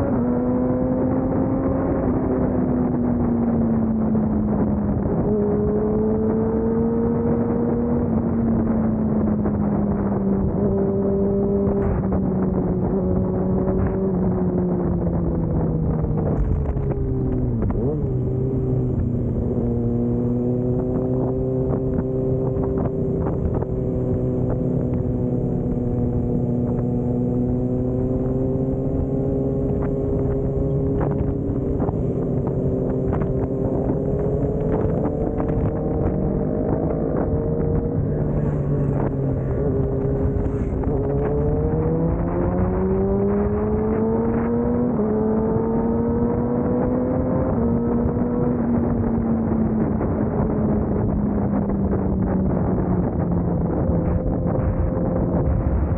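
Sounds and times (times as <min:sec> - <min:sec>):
road and wind noise: 0:00.0 - 0:55.9
motorcycle engine running: 0:00.4 - 0:55.9.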